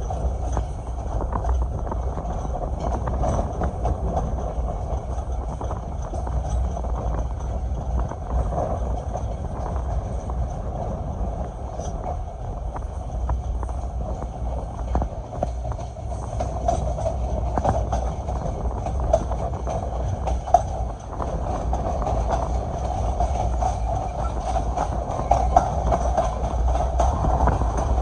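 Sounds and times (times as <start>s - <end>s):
train rumble: 0.0s - 28.0s
wheels clacking over rail joints: 0.0s - 28.0s.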